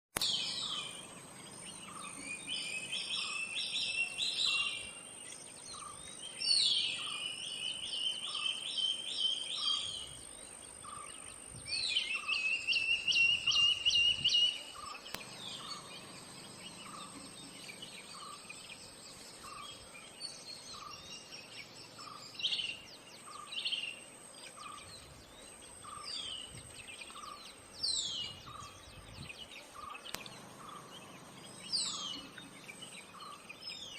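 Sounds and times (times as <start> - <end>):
steady high-pitched whine: 0.2 - 33.9.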